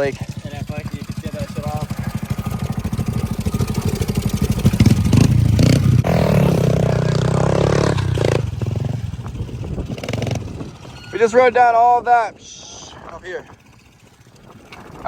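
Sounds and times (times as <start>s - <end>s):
pit bike engine revving: 0.0s - 15.0s.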